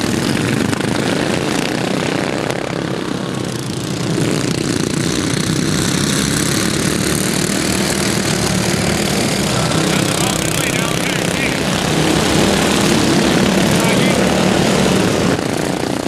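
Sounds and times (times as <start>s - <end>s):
lawn mower engines racing: 0.0s - 16.0s.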